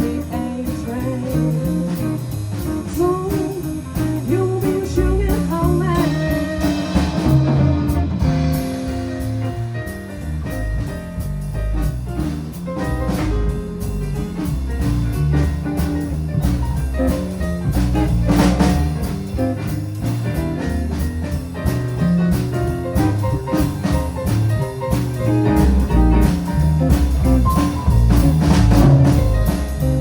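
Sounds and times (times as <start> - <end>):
jazz band playing: 0.0 - 30.0.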